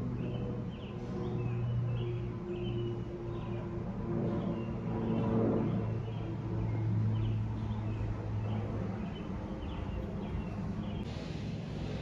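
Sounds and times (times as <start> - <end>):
propeller airplane drone: 0.0 - 12.0.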